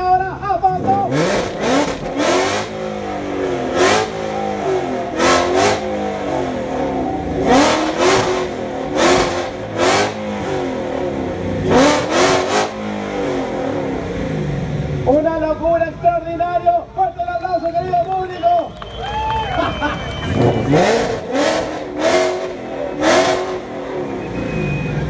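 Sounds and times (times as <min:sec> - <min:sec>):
car engine revving hard: 0:00.0 - 0:15.3, 0:19.6 - 0:25.0.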